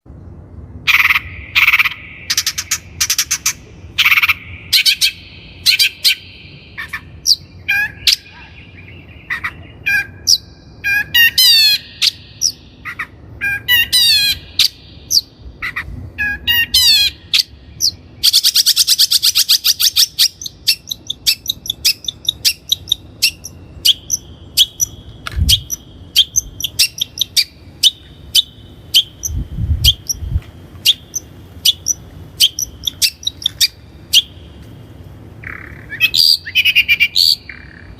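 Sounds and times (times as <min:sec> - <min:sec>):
bird singing sharp chirps and trills: 0:00.9 - 0:15.6, 0:16.2 - 0:34.6, 0:35.4 - 0:37.9.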